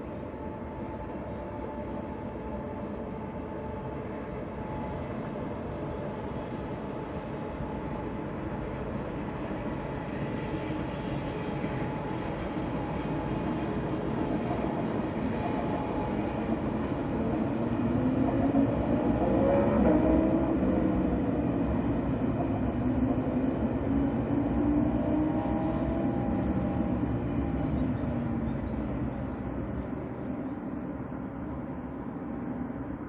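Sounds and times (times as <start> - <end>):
faint whining tones: 0.0 - 33.0
train rail rumble: 0.0 - 33.0.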